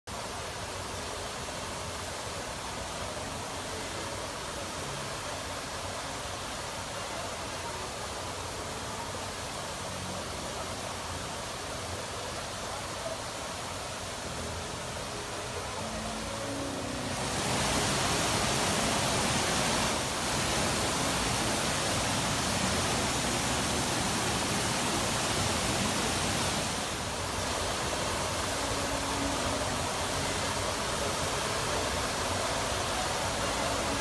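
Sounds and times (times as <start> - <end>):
waterfall rushing: 0.1 - 34.0.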